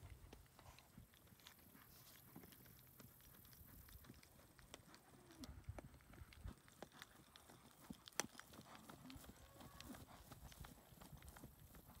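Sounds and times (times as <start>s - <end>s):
horse hoofbeats on firm ground: 0.0s - 12.0s.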